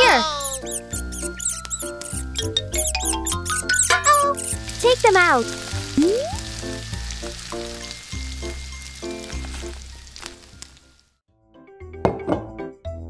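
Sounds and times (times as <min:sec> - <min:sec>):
light background music: 0:00.0 - 0:10.9
hot oil sizzling: 0:00.1 - 0:11.2.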